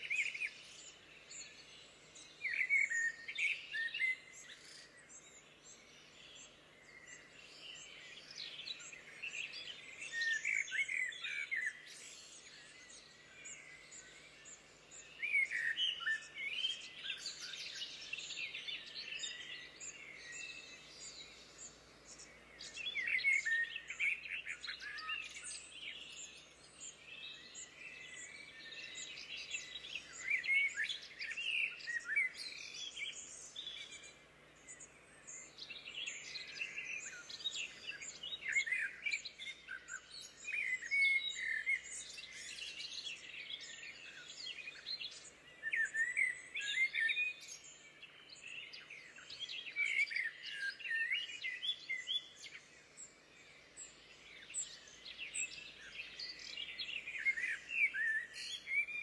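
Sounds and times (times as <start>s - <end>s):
wild birds singing: 0.0s - 59.0s.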